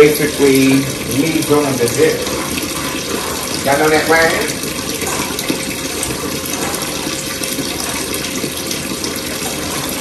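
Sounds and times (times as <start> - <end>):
tap water running: 0.0 - 10.0.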